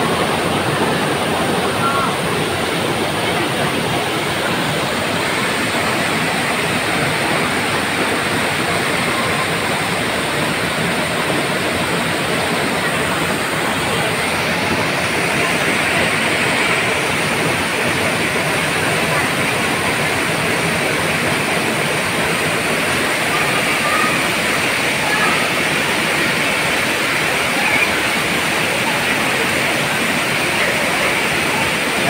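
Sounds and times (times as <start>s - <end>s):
white water rushing over boulders: 0.0s - 32.0s.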